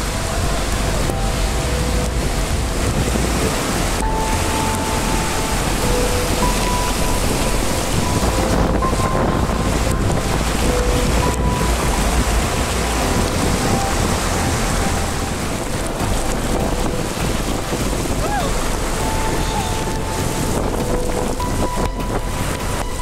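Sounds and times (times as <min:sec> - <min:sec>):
floodwater rushing: 0:00.0 - 0:23.0
heavy rain: 0:00.0 - 0:23.0
low rumble: 0:00.0 - 0:23.0.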